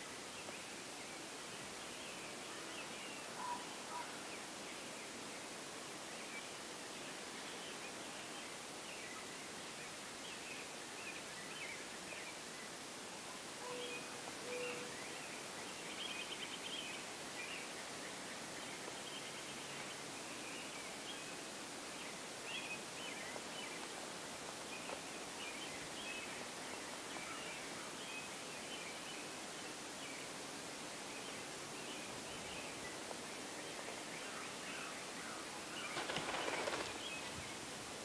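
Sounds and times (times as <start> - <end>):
songbirds chirping: 0.0 - 38.0
steady background hiss: 0.0 - 38.0.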